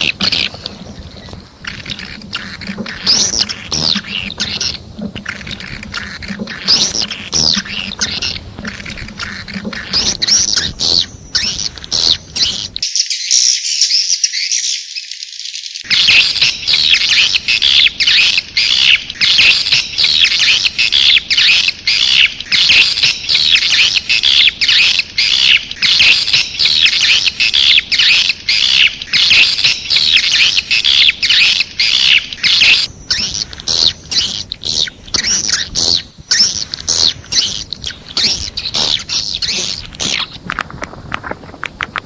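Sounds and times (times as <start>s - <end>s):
swiftlets twittering chirps: 0.0s - 42.0s.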